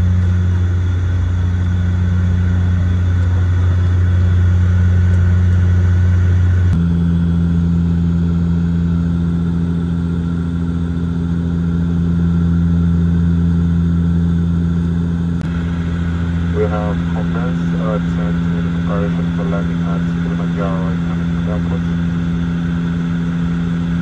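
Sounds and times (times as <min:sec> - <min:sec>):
aircraft cabin engine drone: 0:00.0 - 0:24.0.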